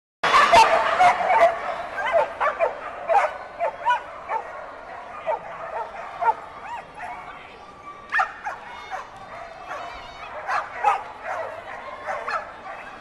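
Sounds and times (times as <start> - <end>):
crowd hubbub in large hall: 0.2 - 13.0
dogs barking: 0.3 - 7.2, 8.1 - 13.0.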